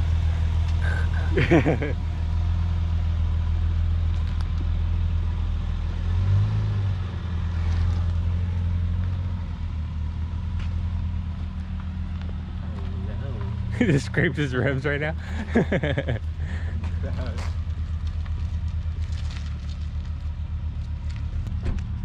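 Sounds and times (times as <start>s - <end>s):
car exhaust drone: 0.0s - 22.0s.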